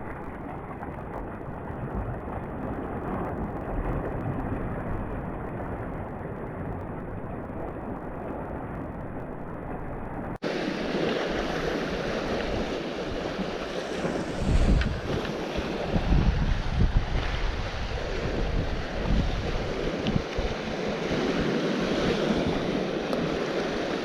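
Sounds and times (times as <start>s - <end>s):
sea waves washing on shore: 0.0s - 24.0s
wind gusting on microphone: 0.0s - 24.0s.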